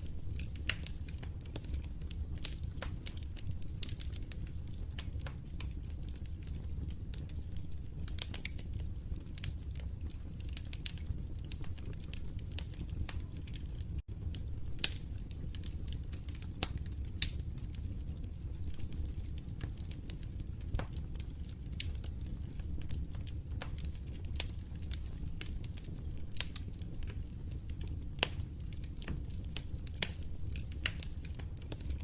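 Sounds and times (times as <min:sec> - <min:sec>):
fire popping: 0:00.0 - 0:32.0
low rumble of flames: 0:00.0 - 0:32.0
wood fire crackling: 0:00.0 - 0:32.0.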